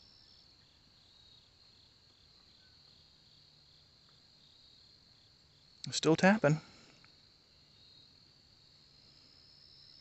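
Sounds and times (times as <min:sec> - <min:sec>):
insects trilling and chirping: 0:00.0 - 0:10.0.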